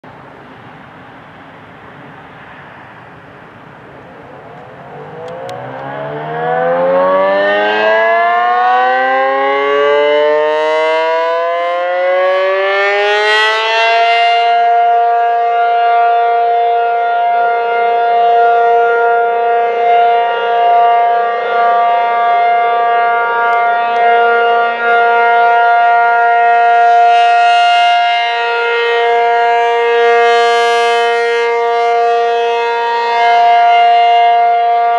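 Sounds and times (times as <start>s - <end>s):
rotating siren wailing: 3.9s - 34.9s.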